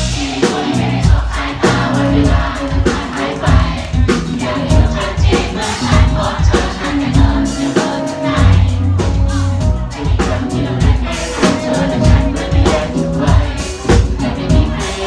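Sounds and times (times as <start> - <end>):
live pop band: 0.0 - 15.0
people singing: 0.0 - 15.0.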